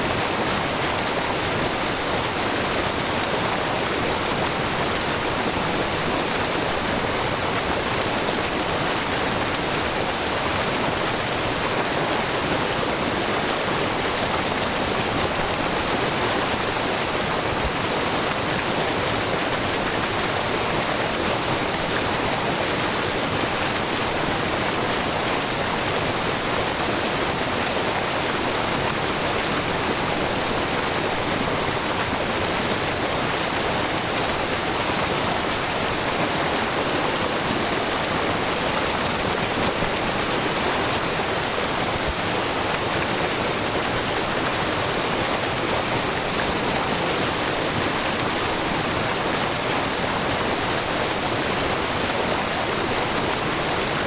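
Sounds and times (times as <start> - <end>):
brook babbling: 0.0 - 54.0
waterfall rushing: 0.0 - 54.0.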